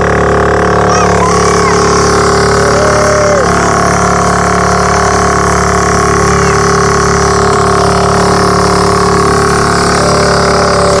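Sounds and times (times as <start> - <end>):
small boat engine running: 0.0 - 11.0.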